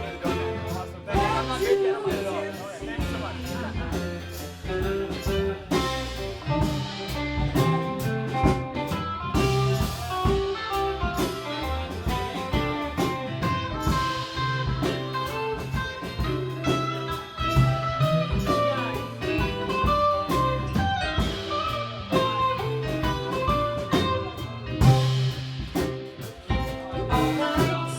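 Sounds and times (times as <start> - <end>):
bass: 0.0 - 27.9
guitar lines: 0.0 - 27.9
steady drum beat: 0.0 - 27.9.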